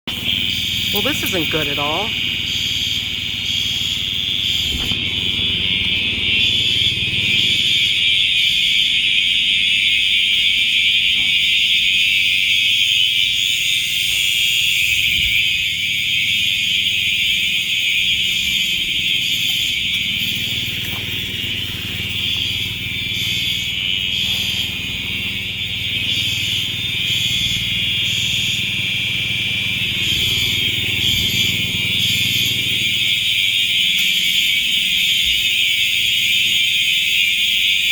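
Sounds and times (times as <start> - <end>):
fire alarm horns sounding: 0.1 - 37.9.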